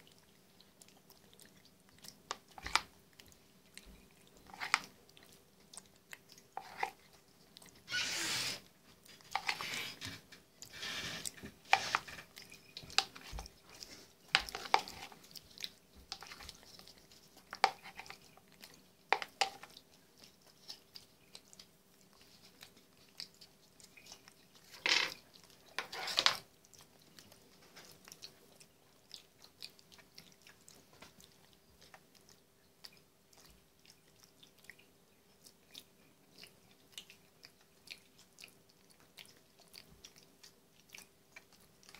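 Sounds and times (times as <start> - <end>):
monkey chewing wetly: 0.0 - 41.9.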